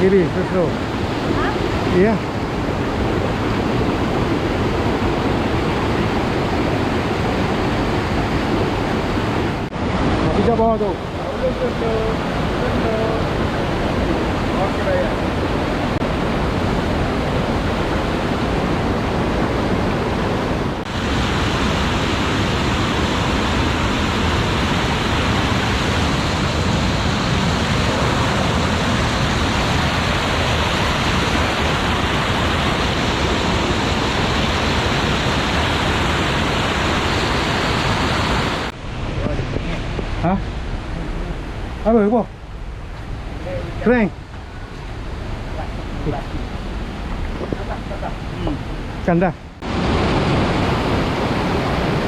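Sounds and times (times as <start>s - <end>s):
water rushing: 0.0s - 52.0s.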